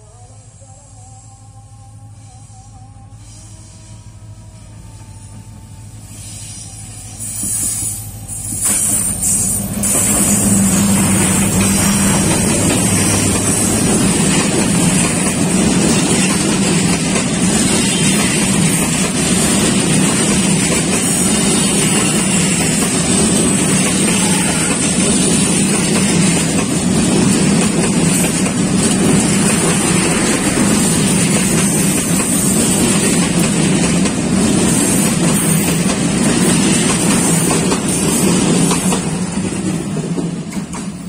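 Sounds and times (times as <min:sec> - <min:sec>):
diesel locomotive passing: 0:00.0 - 0:41.0
train coaches rolling on rails: 0:02.2 - 0:41.0.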